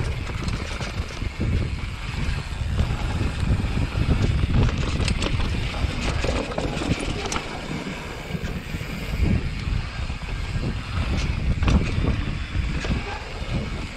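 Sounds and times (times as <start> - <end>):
bike clicks and rattles: 0.0 - 13.9
wind buffeting microphone: 0.0 - 13.9.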